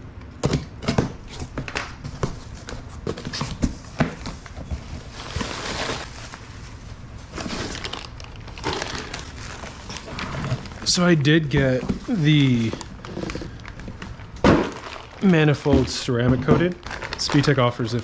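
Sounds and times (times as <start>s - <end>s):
packaging rustling: 2.2s - 18.0s.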